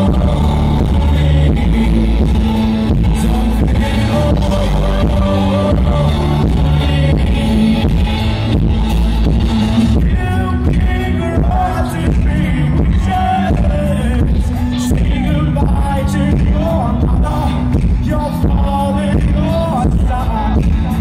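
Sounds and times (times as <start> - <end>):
live band music: 0.0 - 21.0
person singing: 0.0 - 21.0.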